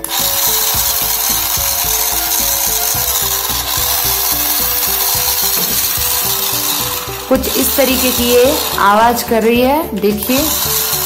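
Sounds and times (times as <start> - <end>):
toy car motor whirring: 0.0 - 11.0.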